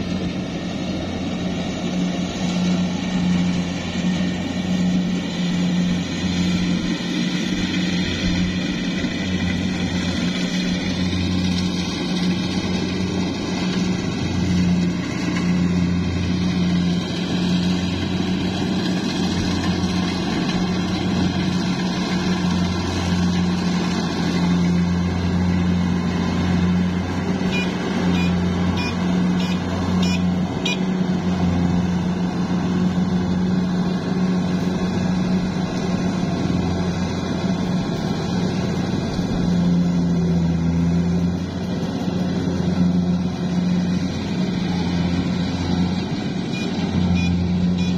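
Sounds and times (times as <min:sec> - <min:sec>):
diesel engine drone: 0:00.0 - 0:47.9.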